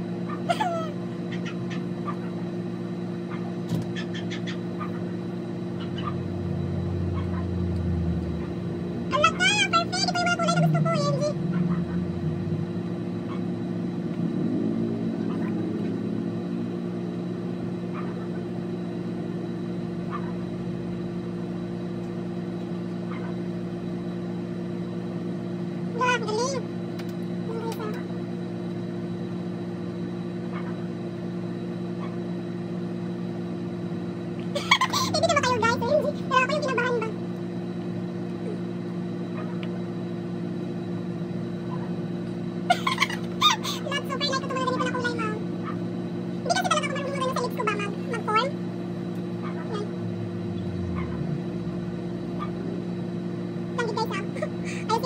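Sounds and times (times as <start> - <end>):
electric motor hum: 0.0 - 55.0.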